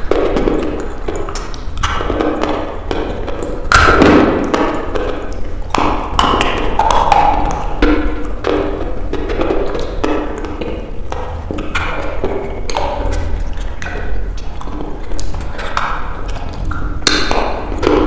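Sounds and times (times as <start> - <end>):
lip smacks: 0.0 - 18.0
person chewing wetly: 0.0 - 18.0
sharp mouth clicks: 0.0 - 18.0.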